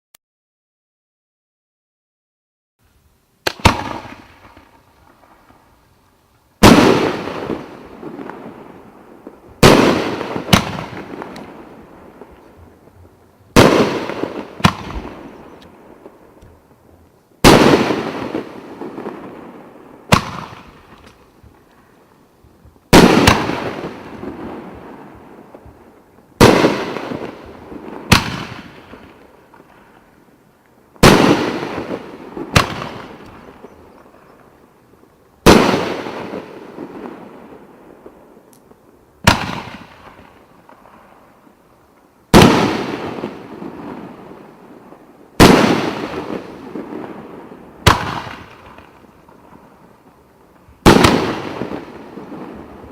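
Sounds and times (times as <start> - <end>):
fireworks bangs: 3.4 - 5.9, 6.6 - 16.8, 17.4 - 30.2, 30.9 - 34.7, 35.4 - 41.5, 42.3 - 52.9.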